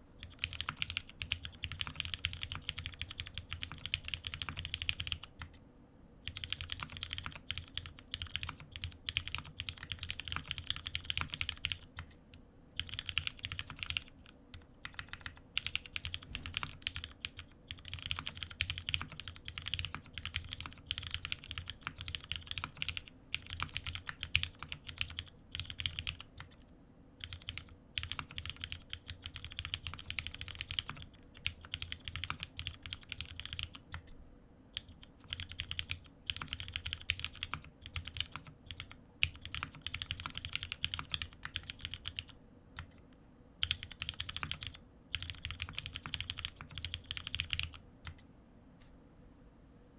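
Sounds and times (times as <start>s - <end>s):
mechanical keyboard typing: 0.2s - 5.6s, 6.2s - 12.2s, 12.8s - 26.6s, 27.2s - 34.1s, 34.7s - 43.0s, 43.6s - 48.2s.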